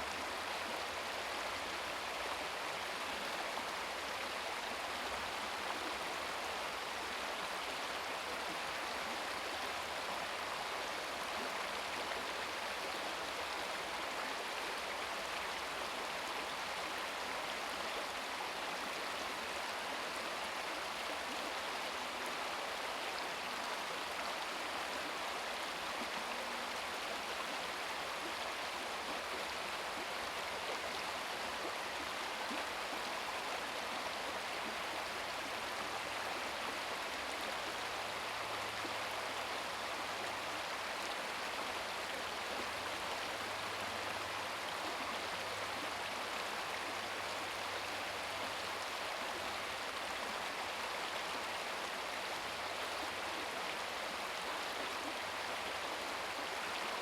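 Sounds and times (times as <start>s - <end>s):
babbling brook: 0.0s - 57.0s.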